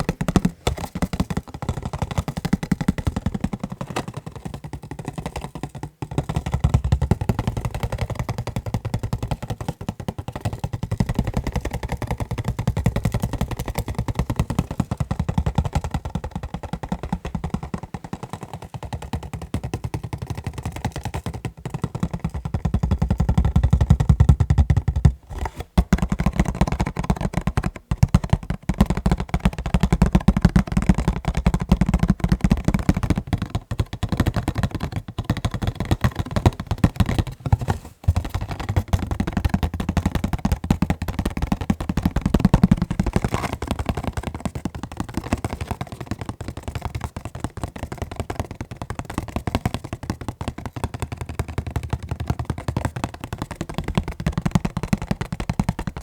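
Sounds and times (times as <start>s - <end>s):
fast tapping on packaging: 0.0s - 56.0s.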